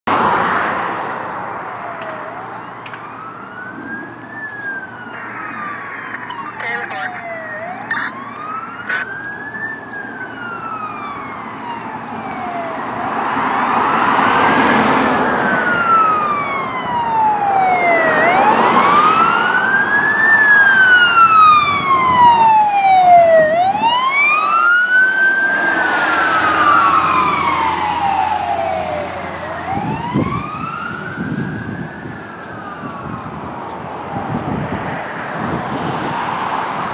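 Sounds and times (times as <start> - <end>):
car tyre and engine noise: 0.1 - 36.9
fire engine siren wailing: 0.2 - 36.9.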